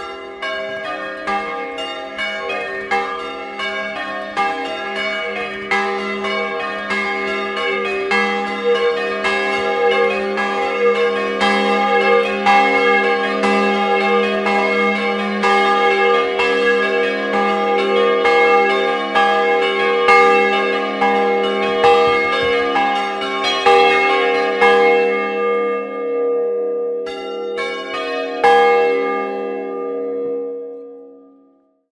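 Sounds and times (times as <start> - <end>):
church bells ringing: 0.0 - 31.8.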